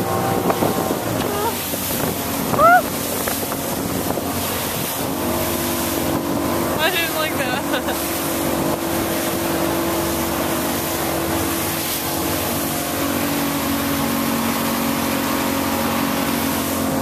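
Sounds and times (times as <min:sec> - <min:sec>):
boat engine running: 0:00.0 - 0:17.0
water noise: 0:00.0 - 0:17.0
wind: 0:00.0 - 0:17.0.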